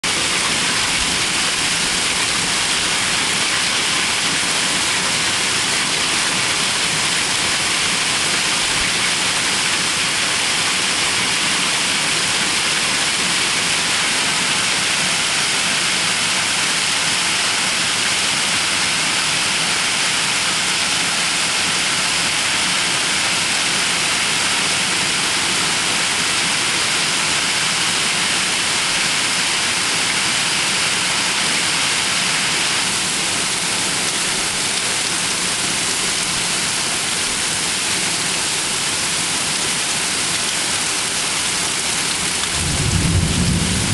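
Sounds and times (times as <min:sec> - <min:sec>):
hail and rain pouring down: 0:00.0 - 0:43.9.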